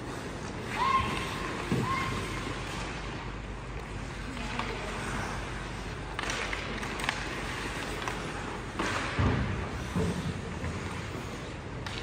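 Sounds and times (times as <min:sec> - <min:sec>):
skate blades scraping ice: 0:00.0 - 0:12.0
hockey sticks clacking: 0:00.2 - 0:12.0.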